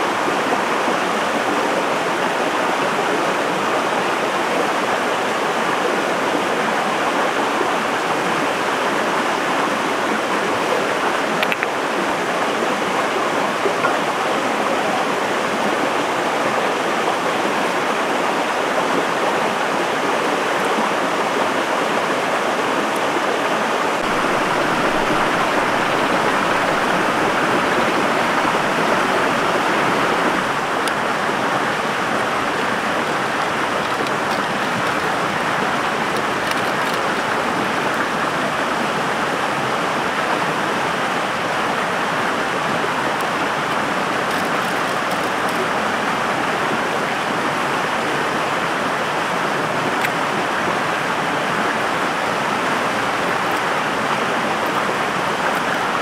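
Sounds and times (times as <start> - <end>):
stream rushing water: 0.0 - 56.0.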